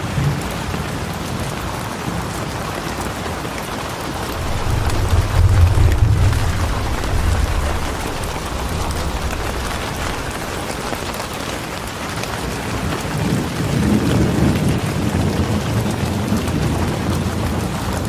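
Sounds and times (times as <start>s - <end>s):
low rumble of thunder: 0.0s - 2.4s, 4.1s - 18.0s
steady rain falling: 0.0s - 18.0s.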